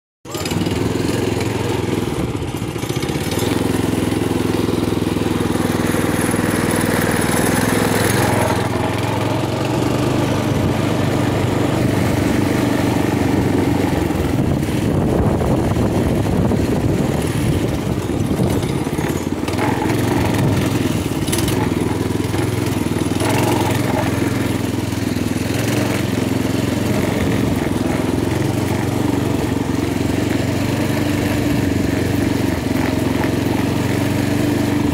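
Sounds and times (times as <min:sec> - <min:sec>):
minibike engine running: 0:00.2 - 0:34.9.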